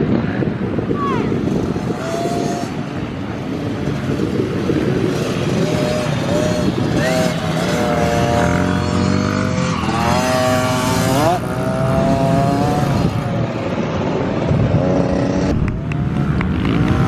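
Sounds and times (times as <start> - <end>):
small motorbike engine revving: 0.9 - 17.0.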